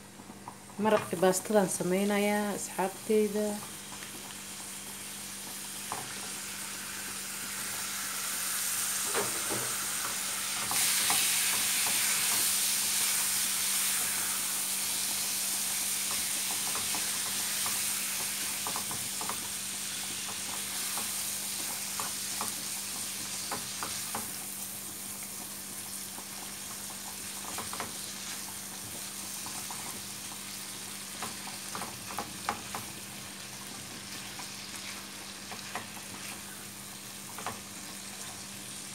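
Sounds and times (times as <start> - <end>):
chicken sizzling in a pan: 0.0 - 38.9.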